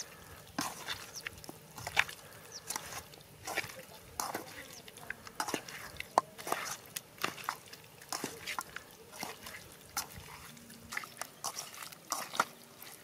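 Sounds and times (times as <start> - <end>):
raw chicken squelching by hand: 0.0 - 13.0.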